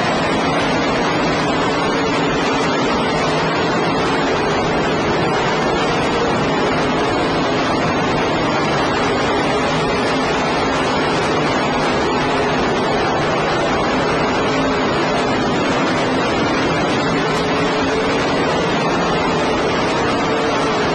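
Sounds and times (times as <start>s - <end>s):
faint engine drone: 0.0s - 20.9s
race car engines: 0.0s - 20.9s.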